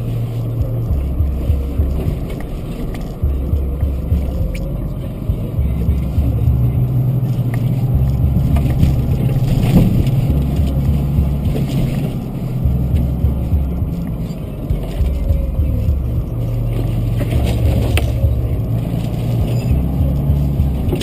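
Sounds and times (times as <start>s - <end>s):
vehicle engine low rumble: 0.0s - 21.0s.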